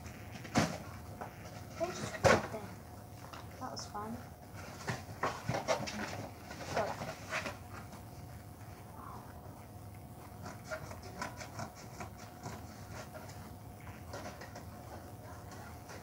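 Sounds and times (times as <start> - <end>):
ceiling fan hum: 0.0 - 16.0.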